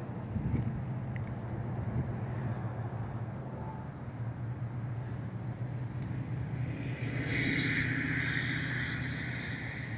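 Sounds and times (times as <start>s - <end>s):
road traffic: 0.0s - 9.9s.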